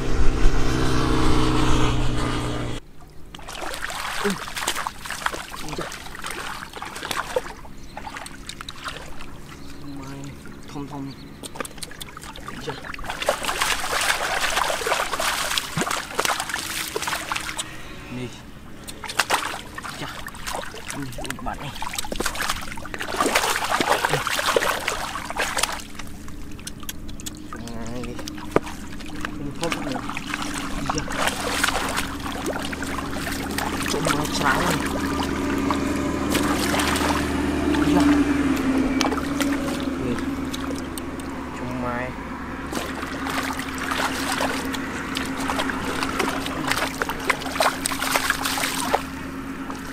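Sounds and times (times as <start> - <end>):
motor-like hum: 0.0 - 49.9
muddy water splashing: 0.0 - 49.9
fish thrashing in water: 2.9 - 17.8, 18.4 - 49.9
hands scooping wet mud: 3.2 - 17.8, 18.7 - 42.1, 42.7 - 49.9.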